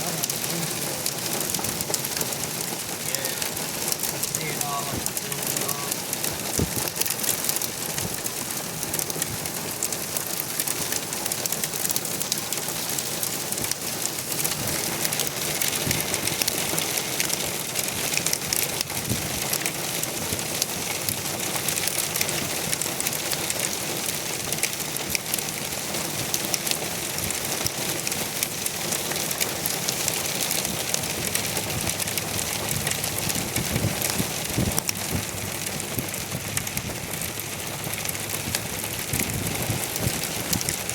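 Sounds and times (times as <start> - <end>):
hail and heavy rain: 0.0 - 40.9.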